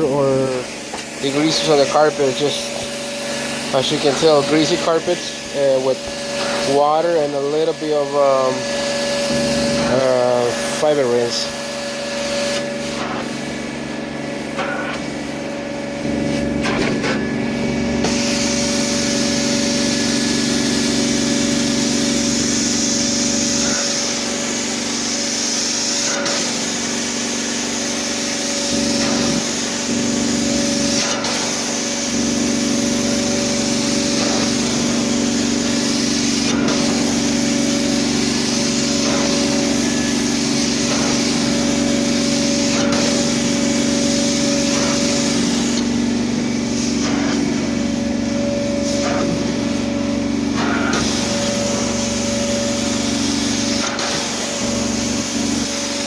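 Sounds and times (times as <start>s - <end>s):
carpet cleaner machine drone: 0.0s - 56.0s
cleaning wand spraying and vacuuming: 0.0s - 56.0s.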